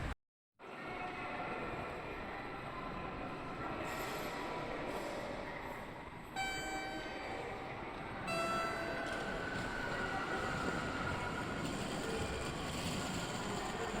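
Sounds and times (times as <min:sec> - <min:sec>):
rail yard background noise: 0:00.0 - 0:14.0.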